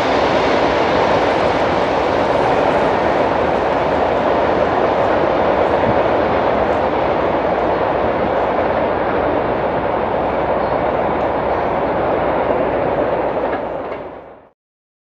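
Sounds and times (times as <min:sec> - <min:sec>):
freight train rolling on rails: 0:00.0 - 0:14.5.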